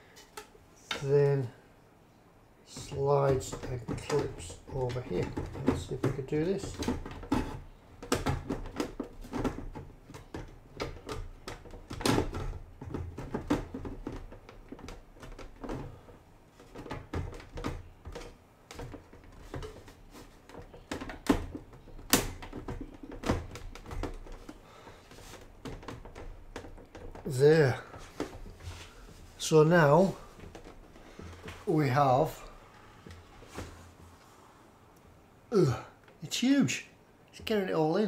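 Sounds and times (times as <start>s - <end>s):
plastic parts clicking and knocking: 0.1s - 1.1s, 2.7s - 33.8s.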